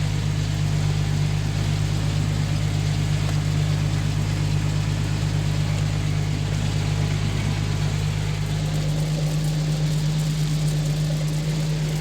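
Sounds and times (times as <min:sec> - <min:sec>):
driveline and tyres spinning hum: 0:00.0 - 0:12.0.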